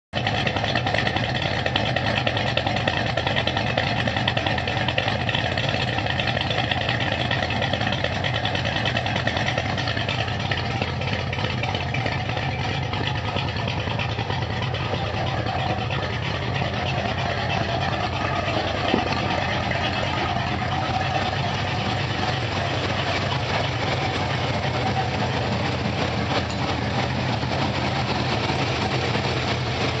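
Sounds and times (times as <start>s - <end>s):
truck engine idling: 0.1s - 30.0s.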